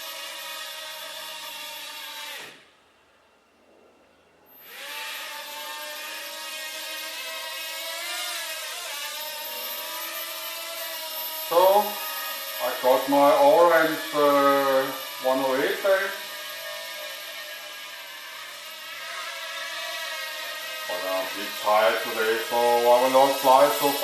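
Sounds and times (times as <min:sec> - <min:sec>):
drone motors whining: 0:00.0 - 0:02.8, 0:04.5 - 0:24.0.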